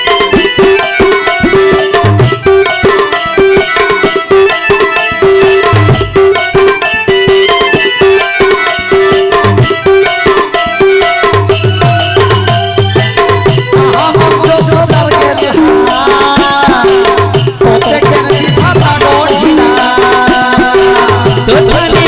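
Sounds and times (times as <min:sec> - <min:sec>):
electronic organ melody: 0:00.0 - 0:20.0
fast tabla strokes: 0:00.0 - 0:22.0.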